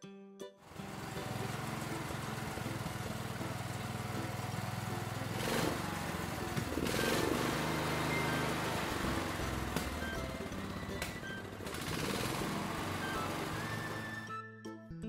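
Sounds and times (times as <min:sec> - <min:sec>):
cartoon tractor engine chugging: 0:00.6 - 0:14.4.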